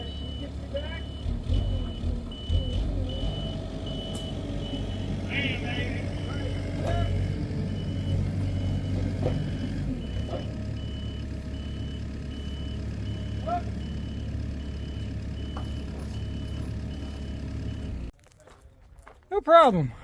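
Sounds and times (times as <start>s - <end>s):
engine idling: 0.0s - 18.1s
reversing alarm beeping: 0.0s - 18.1s.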